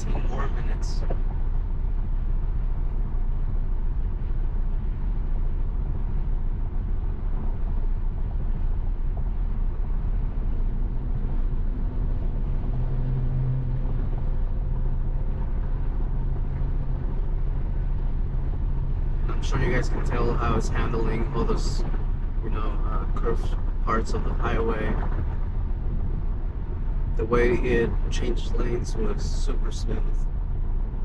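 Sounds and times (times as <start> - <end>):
faint low hum: 0.0 - 31.0
road and tyre noise: 0.0 - 31.0.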